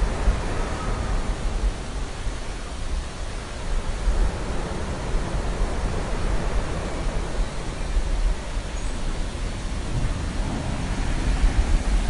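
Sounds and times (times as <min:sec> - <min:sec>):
ocean water wash: 0:00.0 - 0:12.0.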